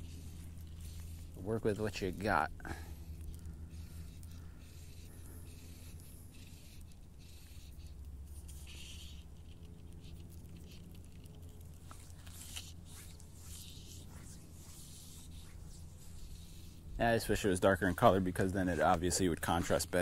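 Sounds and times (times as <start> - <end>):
fly line rustling and ticking: 0.0 - 20.0
low steady hum: 0.0 - 20.0.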